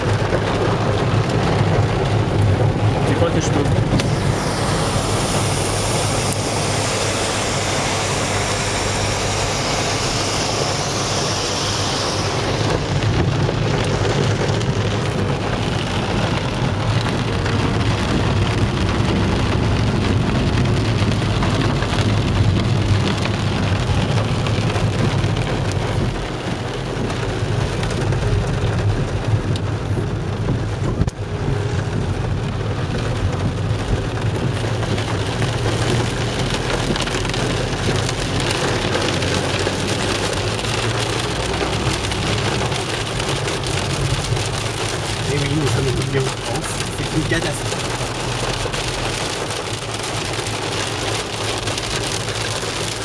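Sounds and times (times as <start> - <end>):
car engine: 0.0 - 53.0
rain on car windscreen and roof: 0.0 - 53.0
tyres on wet road: 0.0 - 53.0.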